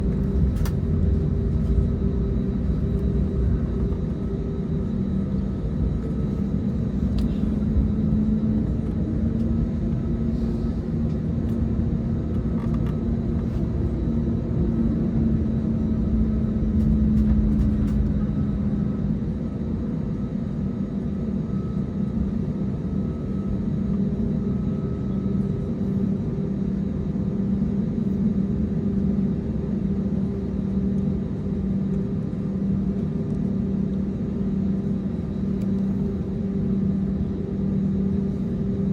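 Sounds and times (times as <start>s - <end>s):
jet engines rumbling in cabin: 0.0s - 38.9s
low wavering hum: 0.0s - 38.9s.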